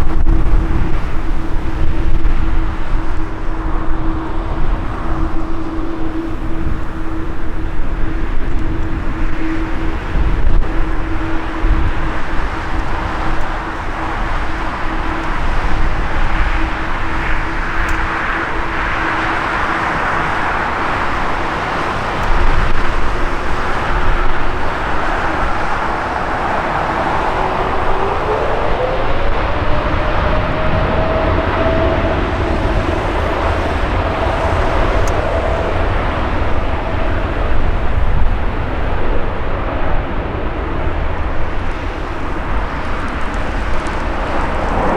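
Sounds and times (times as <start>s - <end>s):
jet engines running: 0.0s - 44.9s
wind buffeting microphone: 0.0s - 44.9s.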